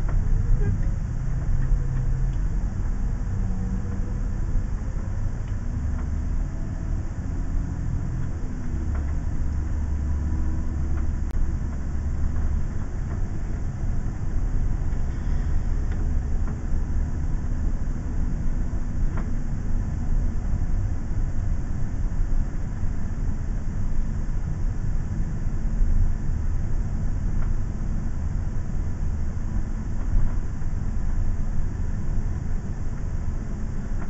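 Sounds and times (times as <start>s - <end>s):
engine and tyres rumbling: 0.0s - 34.0s.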